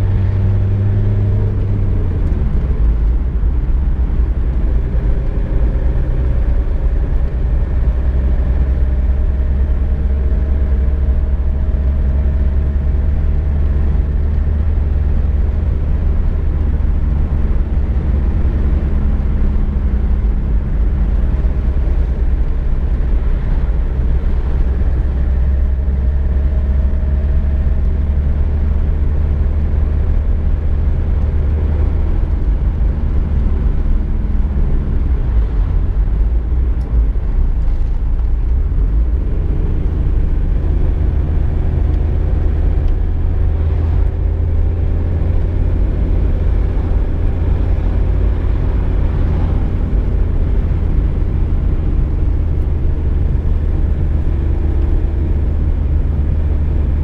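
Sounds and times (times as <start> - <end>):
road and engine rumble inside car: 0.0 - 57.0.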